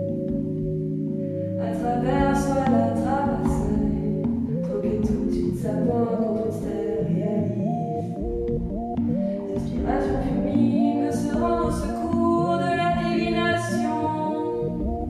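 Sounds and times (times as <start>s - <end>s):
drone of low held tones: 0.0s - 15.0s
woman singing into microphone: 1.6s - 8.1s, 9.3s - 15.0s.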